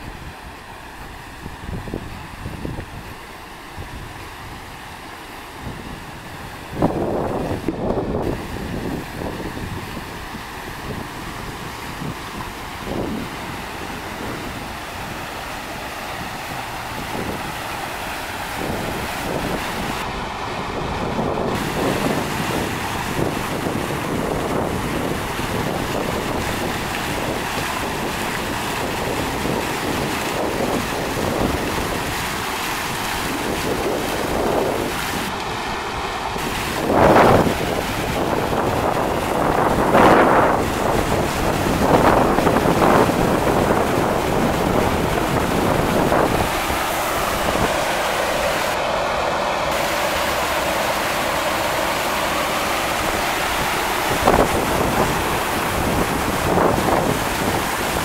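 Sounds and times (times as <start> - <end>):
wind buffeting microphone: 0.0 - 4.8, 5.5 - 58.0
water splashing and pouring: 0.0 - 58.0
wooden waterwheels turning: 0.0 - 58.0.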